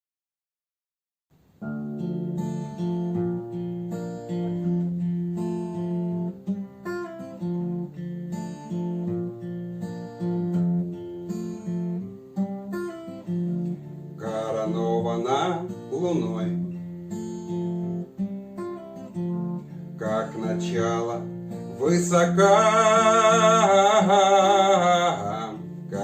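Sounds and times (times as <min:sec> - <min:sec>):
acoustic guitar strumming: 0:01.4 - 0:26.0.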